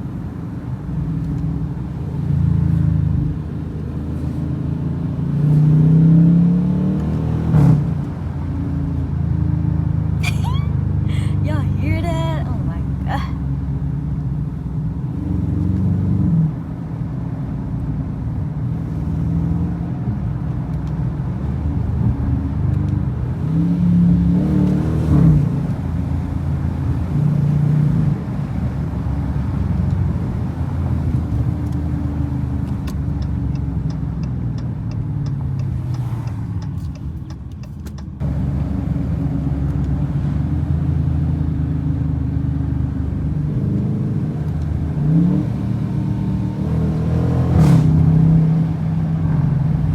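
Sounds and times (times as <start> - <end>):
car engine revving while driving: 0.1 - 10.2, 12.4 - 49.9.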